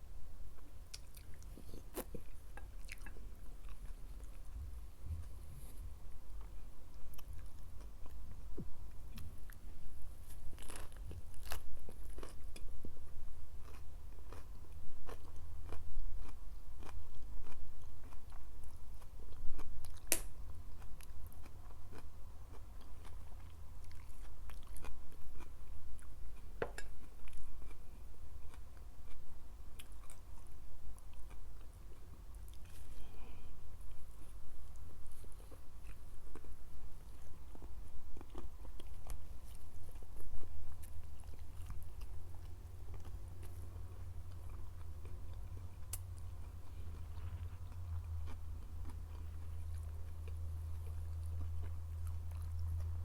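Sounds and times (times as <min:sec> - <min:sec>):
chewing with crisp crunches: 0:00.5 - 0:53.0.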